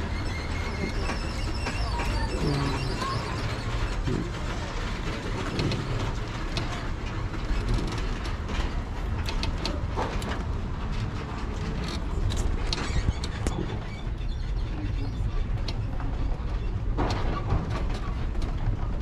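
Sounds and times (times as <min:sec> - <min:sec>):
tram rumbling: 0:00.0 - 0:19.0
light clicks and rattles: 0:00.2 - 0:19.0.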